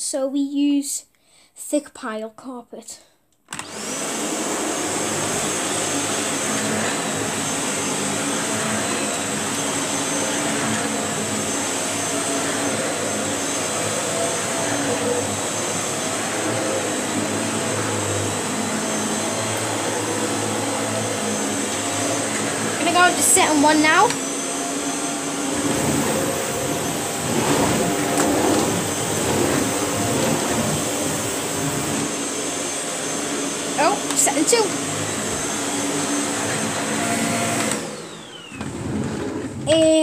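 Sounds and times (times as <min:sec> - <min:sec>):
vacuum cleaner running: 0:03.5 - 0:40.0.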